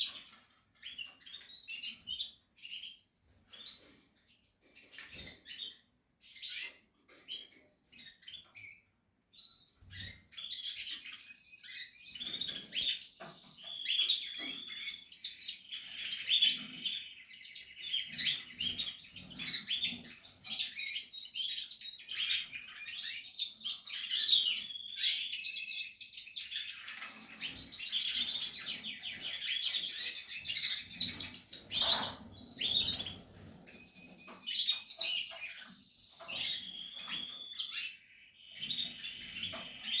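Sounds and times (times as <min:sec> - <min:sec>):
canaries chirping and trilling: 0:00.0 - 0:40.0.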